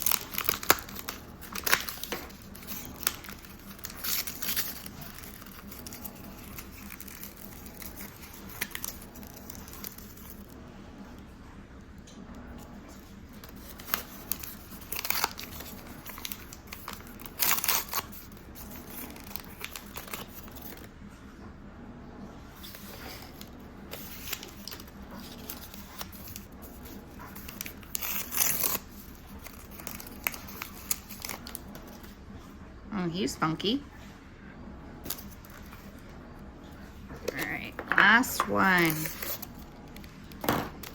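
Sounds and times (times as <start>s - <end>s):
plastic packaging crinkling and tearing: 0.0s - 10.6s, 12.9s - 20.9s, 22.6s - 32.2s, 35.0s - 36.0s, 37.1s - 40.9s.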